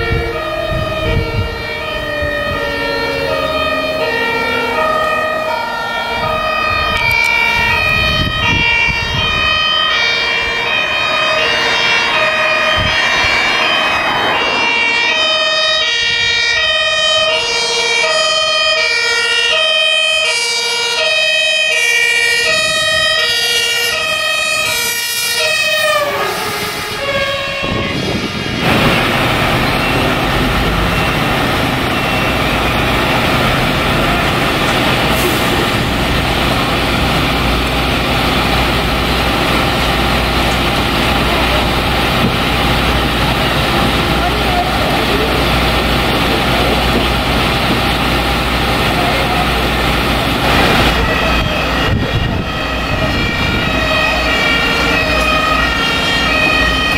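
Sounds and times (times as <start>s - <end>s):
truck diesel engines rumbling: 0.0s - 56.9s
two-tone siren: 0.0s - 56.9s.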